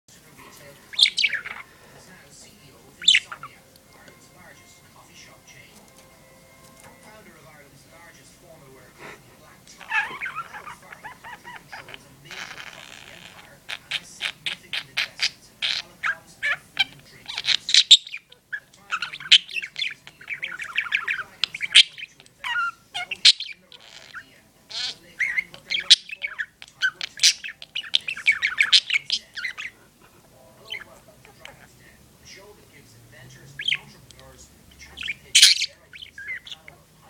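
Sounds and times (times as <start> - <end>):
budgerigar chirping and chattering: 0.3 - 7.3, 9.4 - 37.0.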